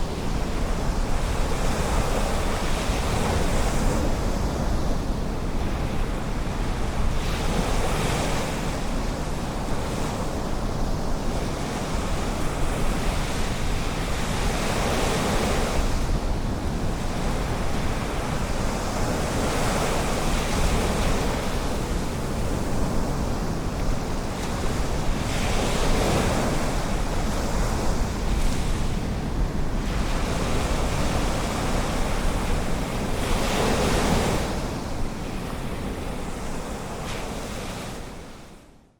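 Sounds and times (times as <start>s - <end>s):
ocean surf washing on beach: 0.0s - 38.8s.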